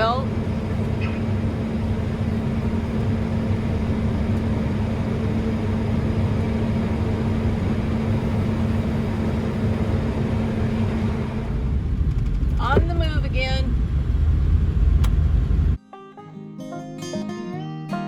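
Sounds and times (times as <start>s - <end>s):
machinery engine humming: 0.0s - 15.8s.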